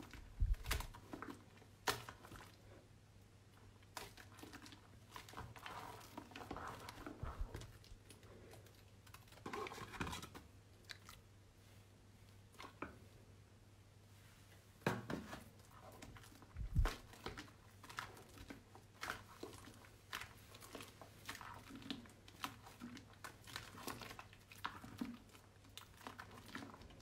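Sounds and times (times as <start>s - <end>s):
wet soap squishing: 0.0s - 13.5s, 14.9s - 27.0s.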